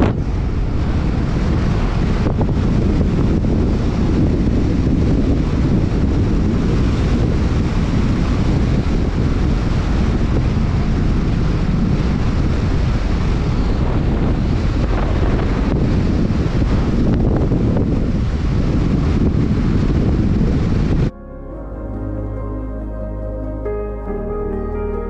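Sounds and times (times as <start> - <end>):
road and tyre rumble: 0.0 - 25.0
wind noise: 0.0 - 25.0.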